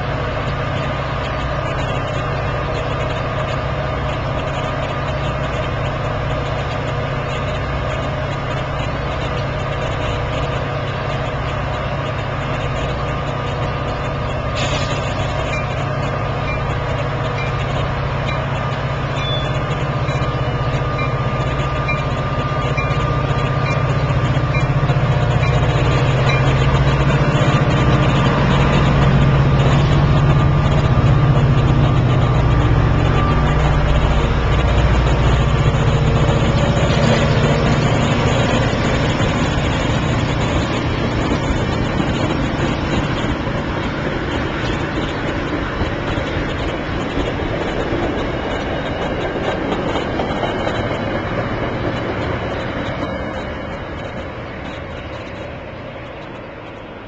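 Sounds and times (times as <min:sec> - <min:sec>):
diesel locomotive passing: 0:00.0 - 0:57.0
train coaches rolling past: 0:00.0 - 0:57.0.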